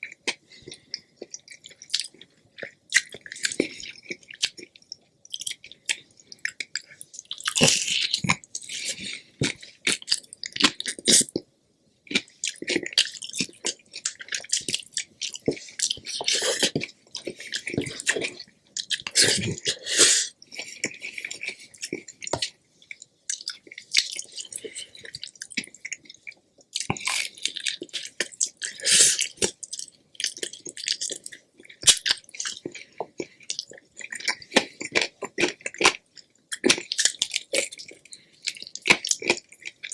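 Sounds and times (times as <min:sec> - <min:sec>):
wet chewing and mouth smacks: 0:00.0 - 0:11.5, 0:12.1 - 0:39.9.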